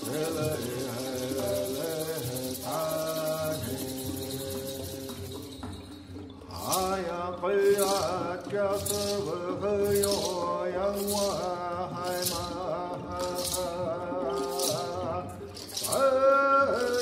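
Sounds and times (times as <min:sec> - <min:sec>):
man chant-singing: 0:00.0 - 0:05.7, 0:06.5 - 0:17.0
rattle shaking: 0:00.0 - 0:17.0.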